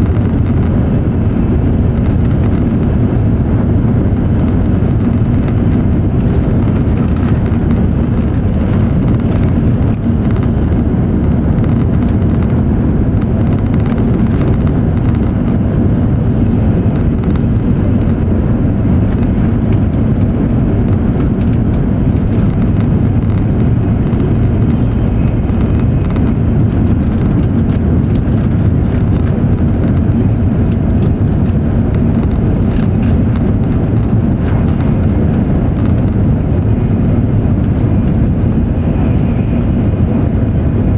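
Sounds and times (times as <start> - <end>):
train wheels rumbling and rushing air: 0.0 - 40.9
faint ticks and rattles: 3.9 - 36.7.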